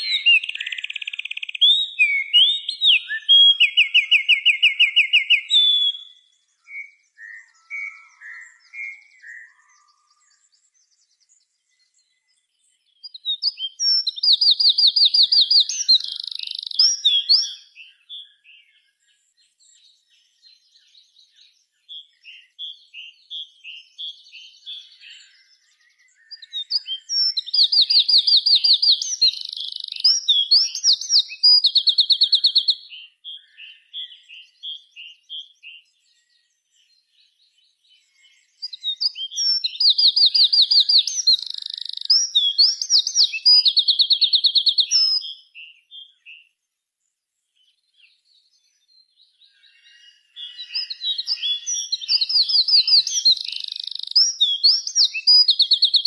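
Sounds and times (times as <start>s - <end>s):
songbird trilling song: 0.0s - 56.0s.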